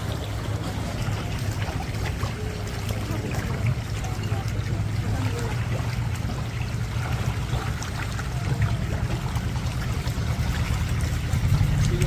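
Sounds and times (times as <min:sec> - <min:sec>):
low rumble: 0:00.0 - 0:12.0
water trickling and splashing: 0:00.0 - 0:12.0.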